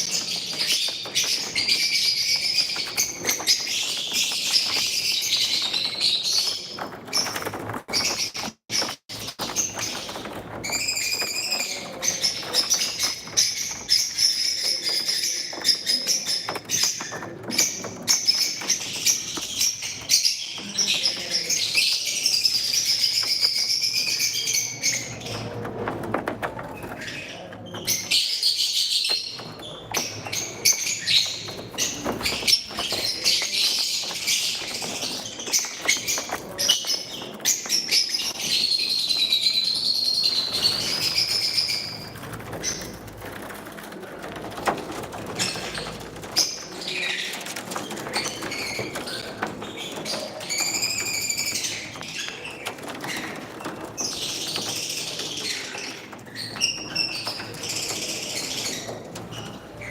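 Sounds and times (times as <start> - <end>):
lovebirds chirping: 0.0 - 59.9.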